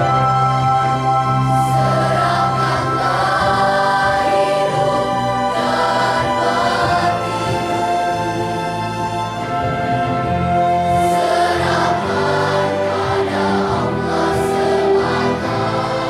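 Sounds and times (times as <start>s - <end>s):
children's choir singing: 0.0s - 16.0s
string orchestra: 0.0s - 16.0s.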